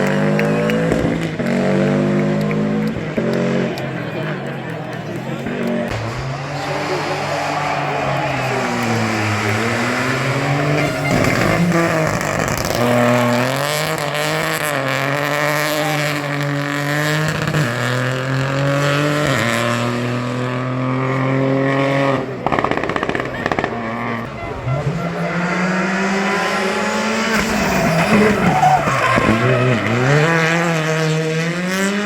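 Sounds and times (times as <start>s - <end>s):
rally car engine at high revs: 0.0s - 32.0s.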